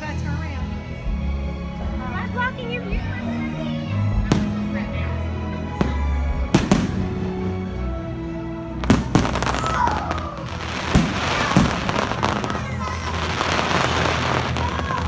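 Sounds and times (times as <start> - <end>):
show music: 1.6 - 15.0.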